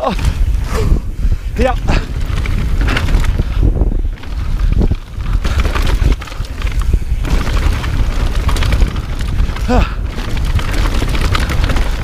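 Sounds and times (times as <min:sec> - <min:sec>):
mountain bike rumble and rattle: 0:00.0 - 0:12.0
wind buffeting microphone: 0:00.0 - 0:12.0.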